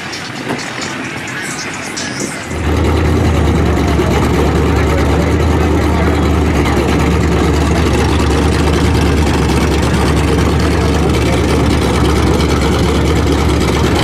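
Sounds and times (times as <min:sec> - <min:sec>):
truck engine running loud: 0:00.0 - 0:14.0
vehicle noise: 0:00.0 - 0:14.0.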